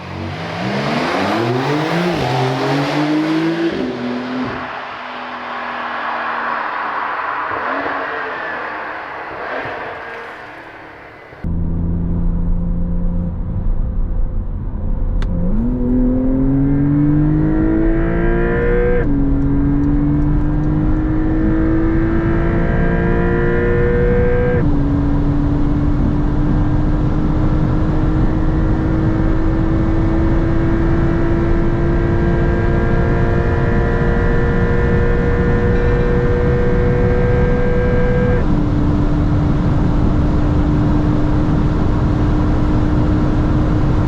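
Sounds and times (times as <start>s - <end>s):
car engine accelerating hard: 0.0s - 13.6s, 15.2s - 44.0s.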